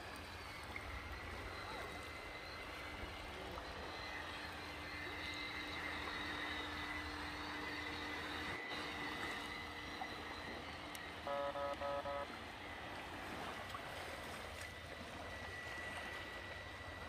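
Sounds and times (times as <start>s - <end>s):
low steady rumble: 0.0s - 17.0s
model boat electric motor whine: 0.0s - 17.0s.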